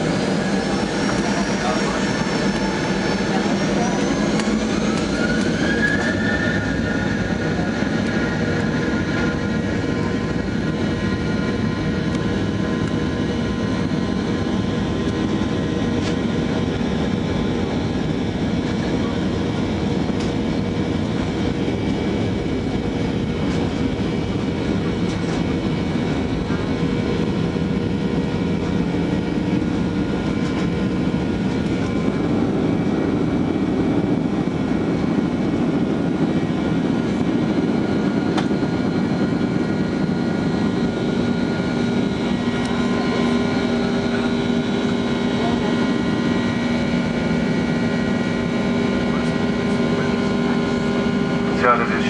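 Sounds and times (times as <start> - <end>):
engine whining tones: 0.0 - 52.0
jet engine and airflow rush: 0.0 - 52.0.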